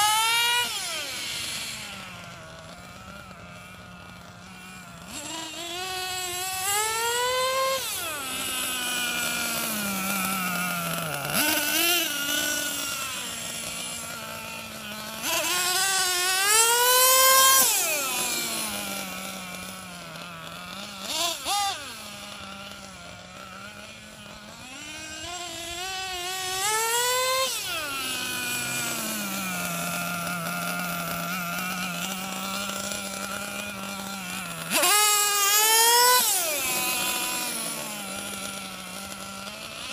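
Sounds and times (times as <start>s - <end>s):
small two-stroke engine revving: 0.0s - 39.9s.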